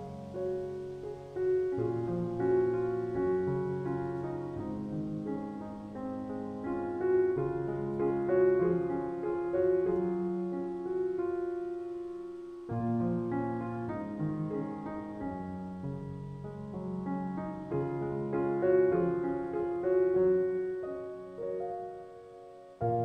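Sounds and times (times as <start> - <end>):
slow piano music: 0.0 - 23.0.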